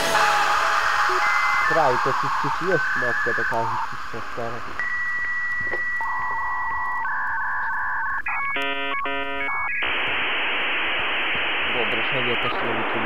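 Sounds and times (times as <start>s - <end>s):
electronic signalling tones: 0.0s - 12.9s
data transmission hiss: 0.0s - 13.0s.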